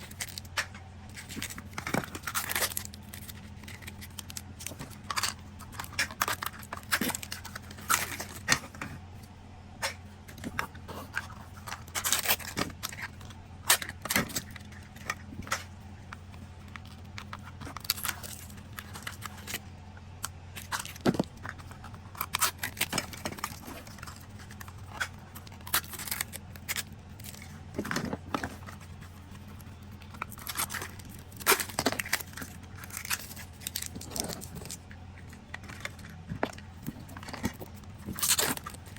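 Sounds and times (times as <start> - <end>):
wrappers tearing and crinkling: 0.0 - 8.8, 9.8 - 19.6, 20.5 - 38.9.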